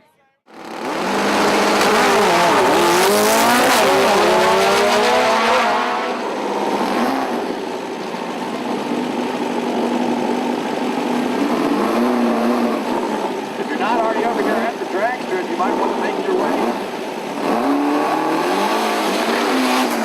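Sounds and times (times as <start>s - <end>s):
car engine revving: 0.5s - 20.0s.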